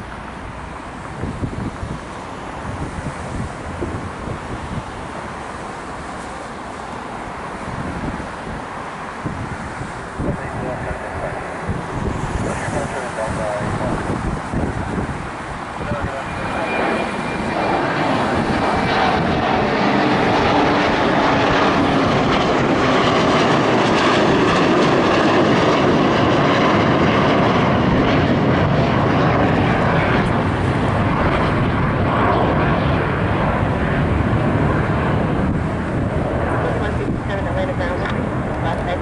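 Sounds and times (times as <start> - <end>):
jet airliner engines rushing: 0.0 - 39.0.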